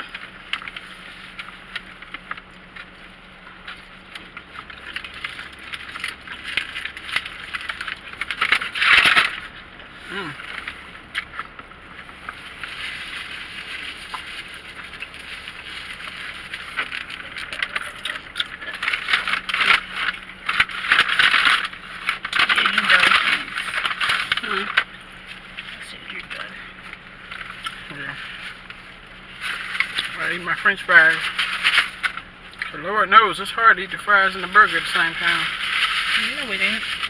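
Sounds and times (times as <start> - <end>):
paper wrappers crinkling: 0.0 - 32.8, 33.4 - 37.0.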